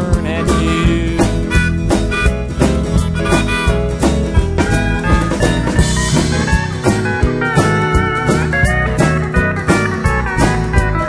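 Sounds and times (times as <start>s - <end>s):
instrumental band music: 0.0s - 11.0s
steady drum beat: 0.0s - 11.0s.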